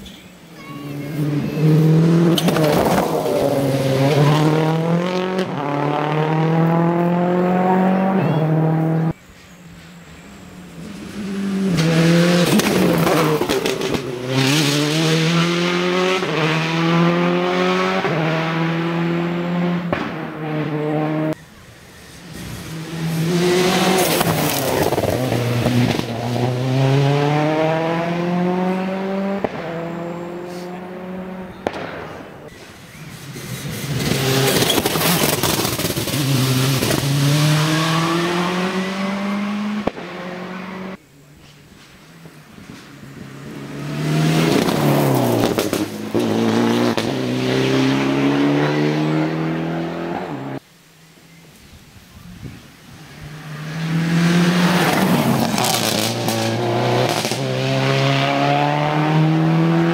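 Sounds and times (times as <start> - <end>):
rally cars accelerating: 0.8 - 9.2, 10.4 - 41.0, 42.5 - 50.6, 53.0 - 59.9.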